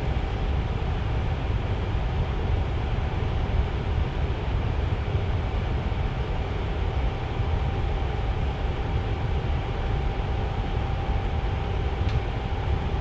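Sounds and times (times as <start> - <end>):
fan air rushing: 0.0 - 13.0
fan motor whine: 0.0 - 13.0.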